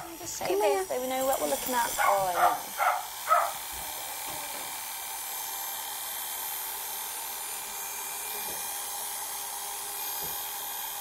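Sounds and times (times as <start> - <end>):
electric clippers whining: 0.0 - 11.0.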